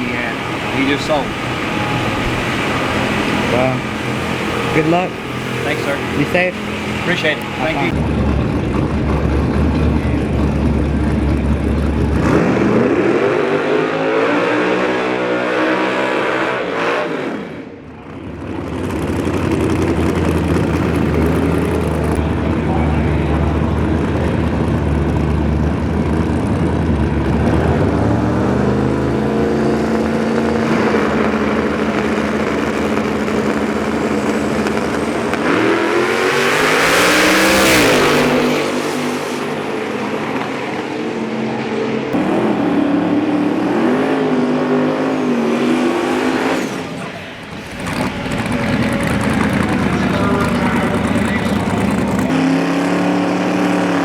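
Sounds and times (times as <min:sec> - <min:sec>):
engine revving up: 0:00.0 - 0:22.6, 0:23.3 - 0:54.0
drag race car engines running: 0:00.0 - 0:54.0.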